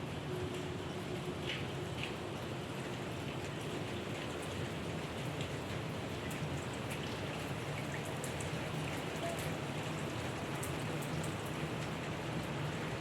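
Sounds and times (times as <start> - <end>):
sharp ticks of raindrops: 0.4 - 12.8.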